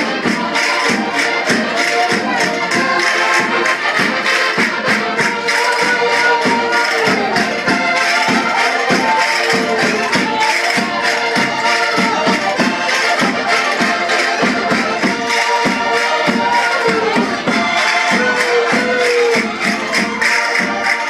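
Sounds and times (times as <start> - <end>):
folk dance music on accordions: 0.0 - 21.0
percussive beat: 0.0 - 21.0.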